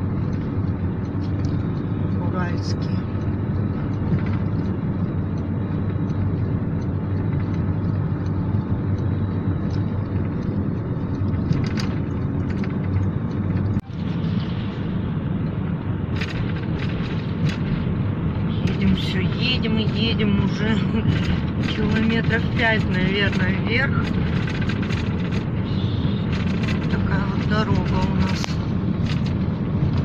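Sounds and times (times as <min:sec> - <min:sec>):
engine and road noise in cabin: 0:00.0 - 0:30.0.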